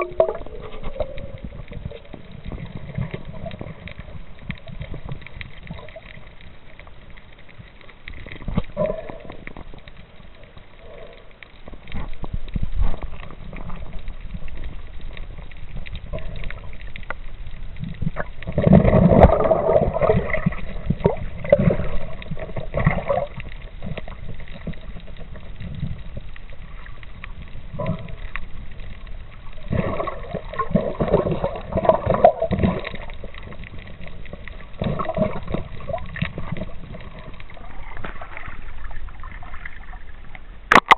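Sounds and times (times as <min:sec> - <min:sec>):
muffled underwater gurgling: 0:00.0 - 0:40.9.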